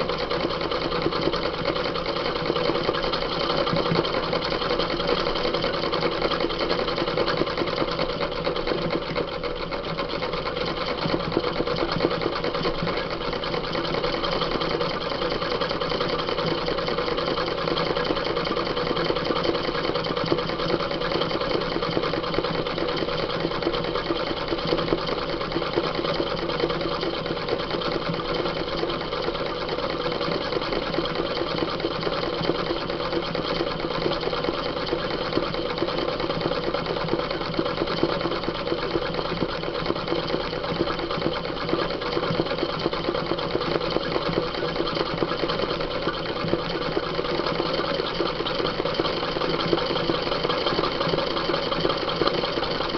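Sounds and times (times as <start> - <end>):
sewing machine stitching: 0.0 - 52.9.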